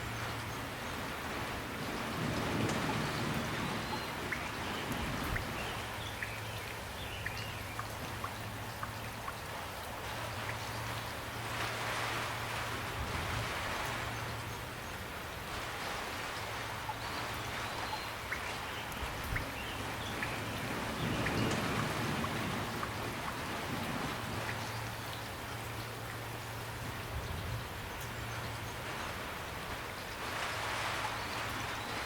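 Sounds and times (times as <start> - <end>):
gentle rain falling: 0.0 - 32.0
raindrops ticking: 0.0 - 32.0.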